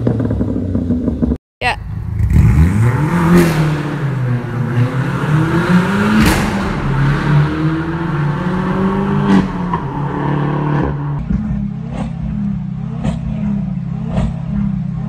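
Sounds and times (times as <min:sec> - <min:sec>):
exhaust crack: 0:00.0 - 0:15.0
car engine accelerating hard: 0:01.9 - 0:15.0.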